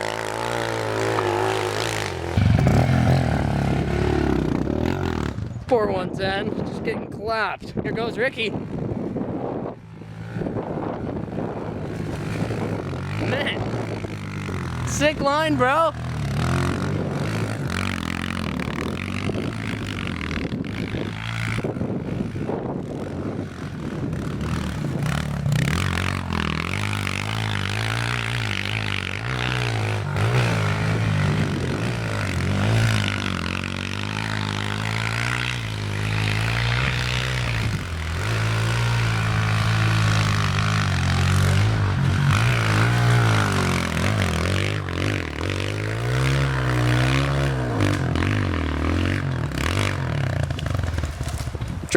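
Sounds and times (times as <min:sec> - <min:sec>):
pit bike engine revving: 0:00.0 - 0:06.4, 0:08.5 - 0:51.9.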